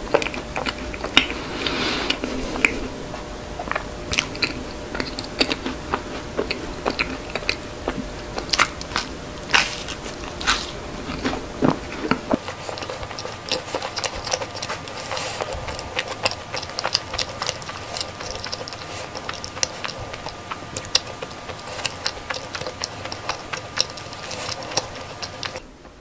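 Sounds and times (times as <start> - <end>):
wet chewing clicks and smacks: 0.0 - 1.4, 2.1 - 25.6.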